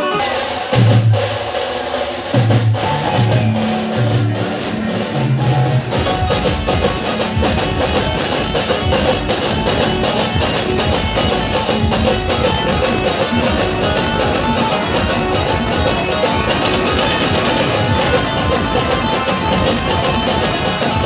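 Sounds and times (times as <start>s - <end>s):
band music through speakers: 0.0s - 1.3s, 2.1s - 21.0s
steady percussion beat: 0.0s - 21.0s.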